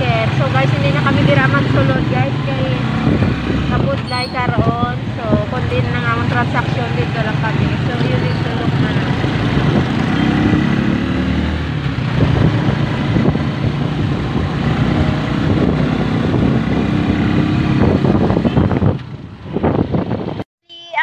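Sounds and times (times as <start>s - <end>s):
street traffic noise: 0.0s - 20.4s
vehicle engine running: 0.0s - 20.4s.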